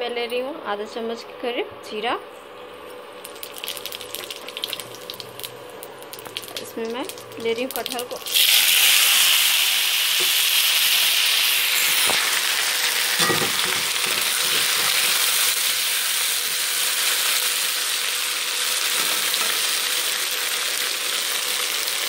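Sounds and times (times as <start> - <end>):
food sizzling in hot oil: 2.8 - 22.0.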